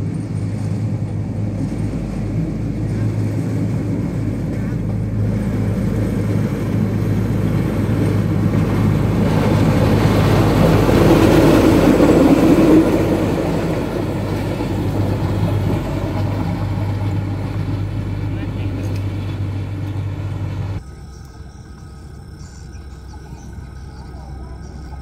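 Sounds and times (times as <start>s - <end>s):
vehicle passing close: 0.0s - 25.0s.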